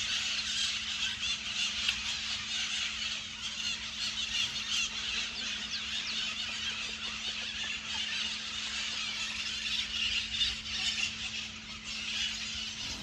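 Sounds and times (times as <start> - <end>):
faint steady hum: 0.0 - 13.0
parrots screeching and chattering: 0.0 - 13.0.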